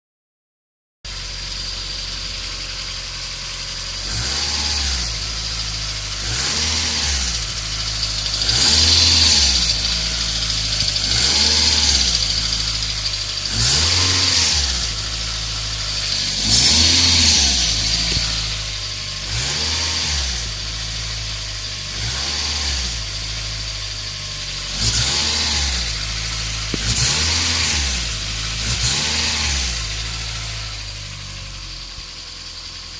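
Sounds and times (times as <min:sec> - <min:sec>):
car engine revving: 0:01.1 - 0:32.9
raspy exhaust noise: 0:01.1 - 0:32.9.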